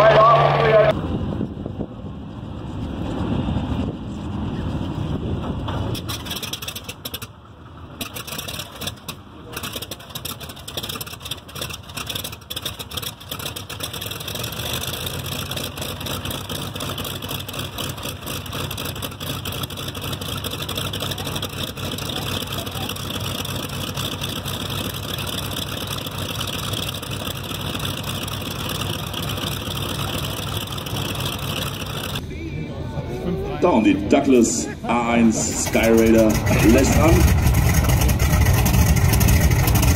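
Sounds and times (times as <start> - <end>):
radial aircraft engine starting: 2.6 - 39.9.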